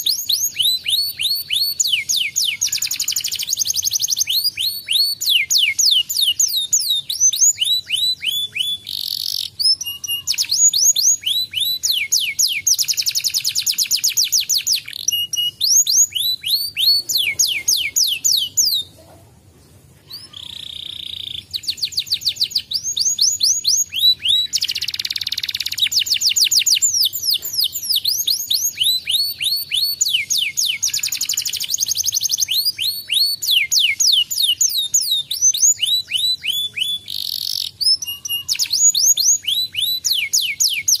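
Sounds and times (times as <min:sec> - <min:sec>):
canary singing trills: 0:00.0 - 0:19.3, 0:20.0 - 0:41.0.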